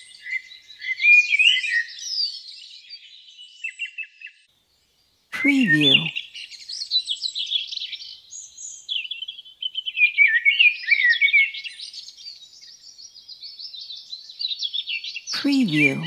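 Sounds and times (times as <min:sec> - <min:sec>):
songbirds chirping and singing: 0:00.0 - 0:16.0.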